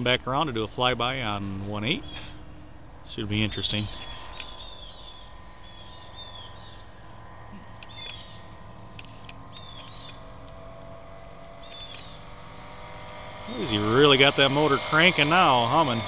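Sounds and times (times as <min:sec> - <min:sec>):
bird chirping: 0:00.0 - 0:15.9
distant light aircraft engine: 0:00.0 - 0:16.0.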